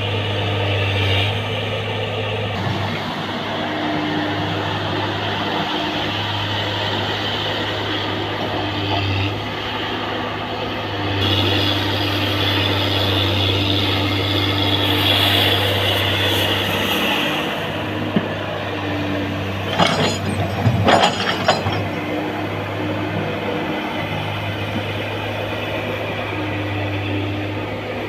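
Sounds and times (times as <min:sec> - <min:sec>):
excavator diesel engine humming: 0:00.0 - 0:28.0.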